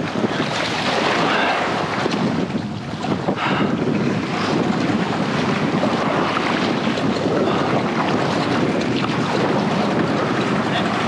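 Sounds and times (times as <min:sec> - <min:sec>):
waves sloshing and splashing: 0:00.0 - 0:11.0
wind buffeting microphone: 0:00.0 - 0:11.0.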